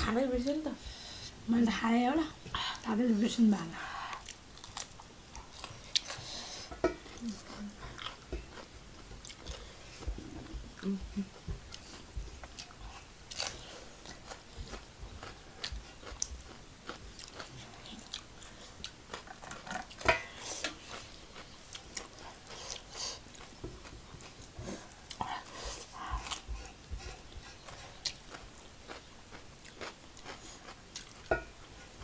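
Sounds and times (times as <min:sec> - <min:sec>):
chewing crispy fried chicken: 0:04.0 - 0:06.4, 0:07.1 - 0:31.4.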